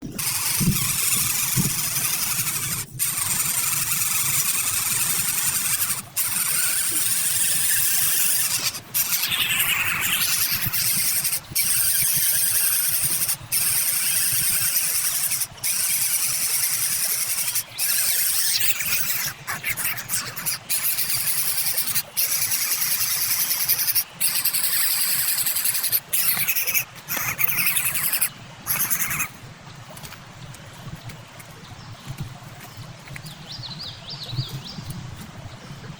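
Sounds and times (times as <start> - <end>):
birds screeching: 0.1 - 29.3.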